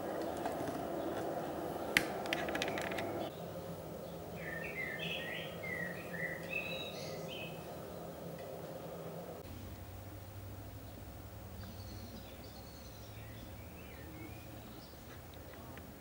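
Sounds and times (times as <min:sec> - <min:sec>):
small birds chirping: 0:00.0 - 0:09.4, 0:10.1 - 0:16.0
steady hiss: 0:00.0 - 0:16.0.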